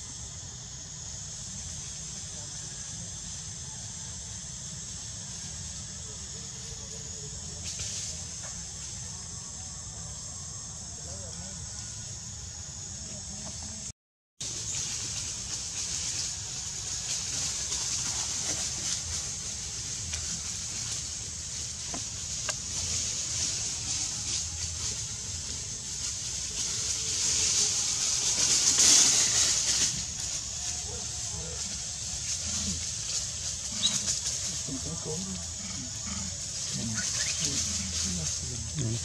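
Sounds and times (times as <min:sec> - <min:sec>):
cicadas droning: 0:00.0 - 0:39.0.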